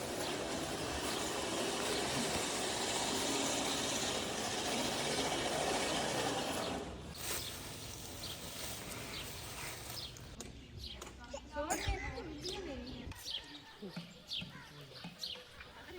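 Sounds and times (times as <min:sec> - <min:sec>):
outdoor background: 0:00.0 - 0:15.9.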